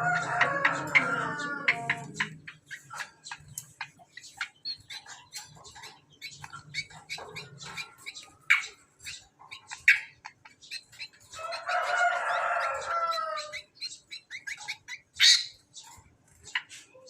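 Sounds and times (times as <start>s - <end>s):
bird chirps and clicks: 0.0s - 17.0s.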